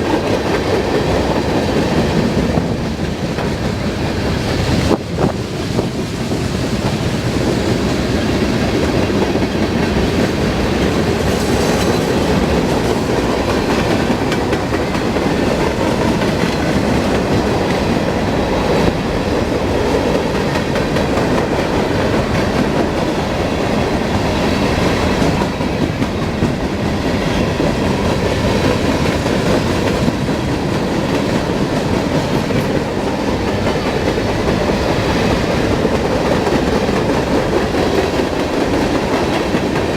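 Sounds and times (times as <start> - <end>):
train cars rumbling past: 0.0 - 39.9
wheels clacking over rail joints: 0.0 - 39.9.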